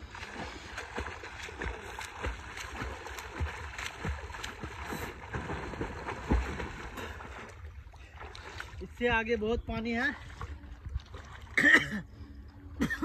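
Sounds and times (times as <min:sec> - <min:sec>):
water splashing: 0:00.0 - 0:12.2.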